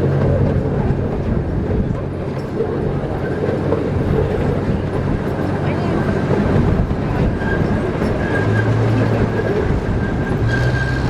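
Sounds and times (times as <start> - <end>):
ride-on train rumbling: 0.0 - 11.0.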